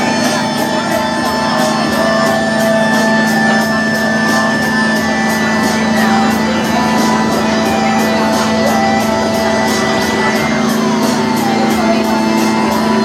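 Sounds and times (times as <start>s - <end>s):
electronic drone with sustained tones: 0.0s - 13.0s.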